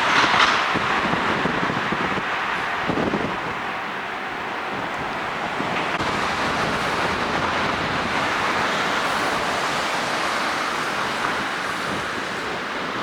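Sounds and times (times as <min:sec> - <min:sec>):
road traffic tyre hiss: 0:00.0 - 0:13.0.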